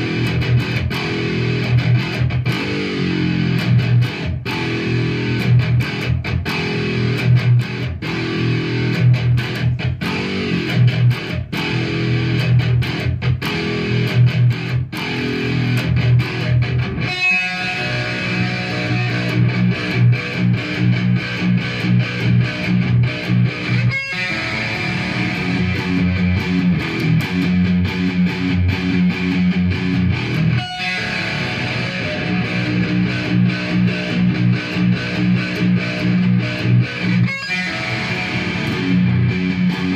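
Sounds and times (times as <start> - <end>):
electric guitar playing: 0.0 - 39.9.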